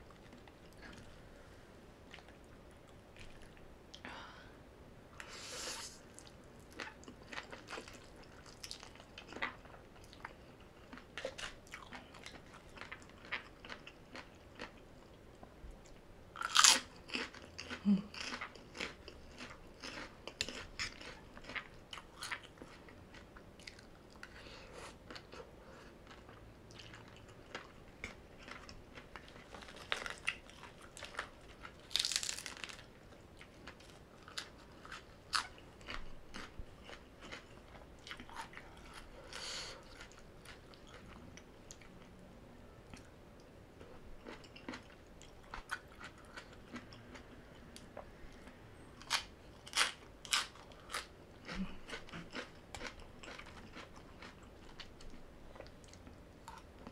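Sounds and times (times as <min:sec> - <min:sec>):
chewing and crunching food: 0:00.0 - 0:01.2, 0:02.0 - 0:04.0, 0:06.1 - 0:42.2, 0:42.9 - 0:56.9.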